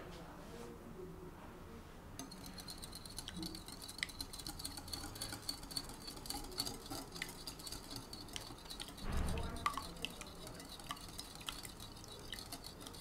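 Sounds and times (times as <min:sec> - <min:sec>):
whisk tapping glass bowl: 0:02.2 - 0:13.0.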